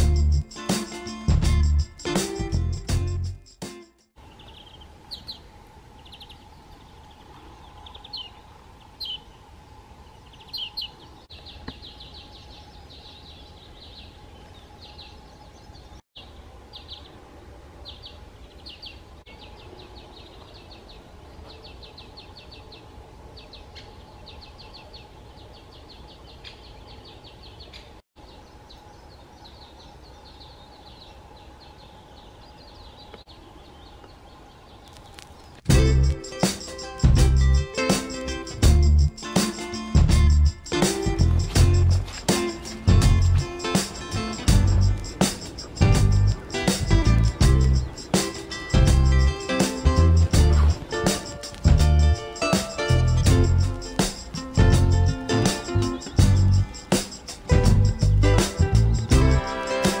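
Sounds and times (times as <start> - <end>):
small birds chirping: 4.2 - 17.2, 17.8 - 60.0.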